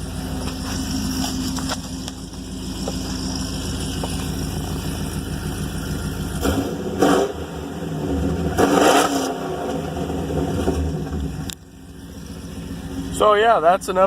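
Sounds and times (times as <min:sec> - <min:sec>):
deep car engine idling: 0:00.0 - 0:14.0.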